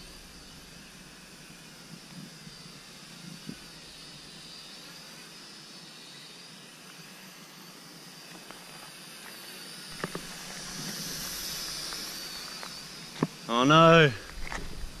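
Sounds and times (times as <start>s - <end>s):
distant drone propellers whining: 0.0s - 15.0s.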